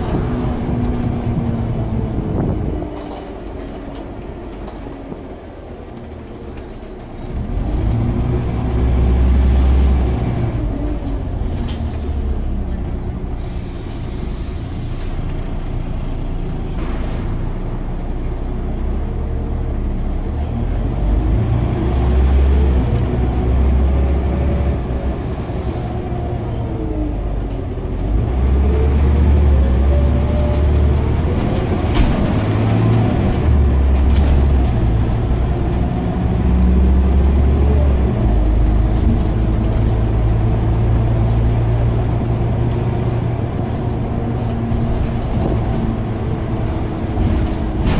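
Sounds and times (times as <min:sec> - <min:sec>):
bus engine: 0:00.0 - 0:47.9.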